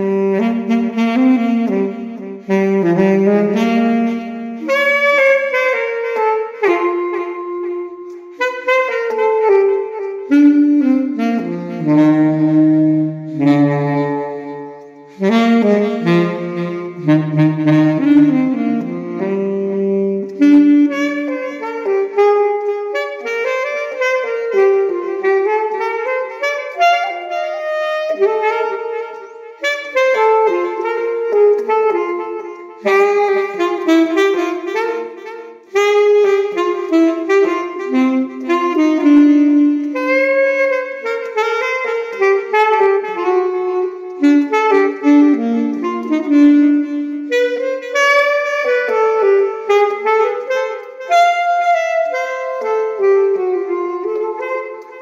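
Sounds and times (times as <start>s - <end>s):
saxophone playing fast melody: 0.0s - 55.0s.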